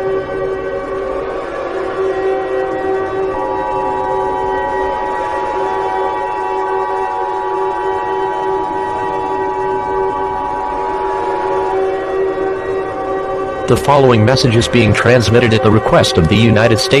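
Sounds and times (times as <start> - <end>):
drone of held tones: 0.0 - 17.0.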